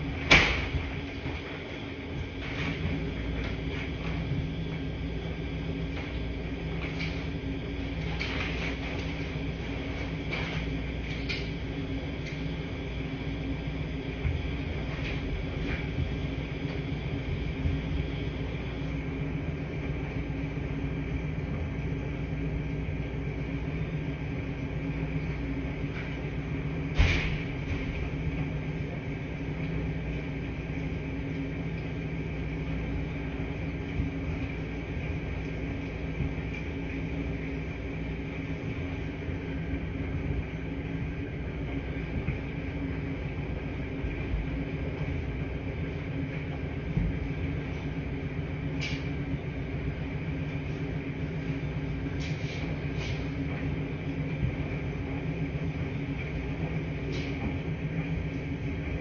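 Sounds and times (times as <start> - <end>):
washing machines humming: 0.0 - 59.0.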